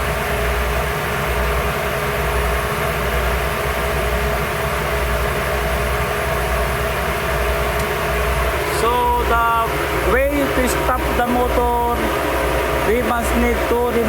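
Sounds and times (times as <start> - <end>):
electric motor driving hydraulic pump: 0.0 - 14.0.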